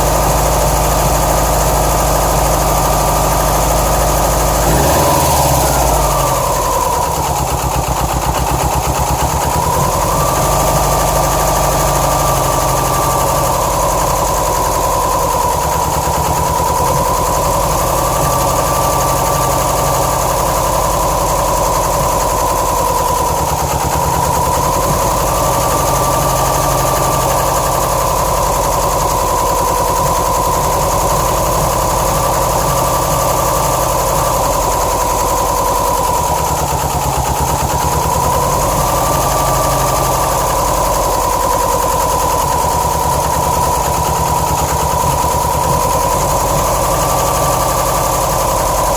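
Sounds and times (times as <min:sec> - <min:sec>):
car engine idling roughly: 0:00.0 - 0:48.9.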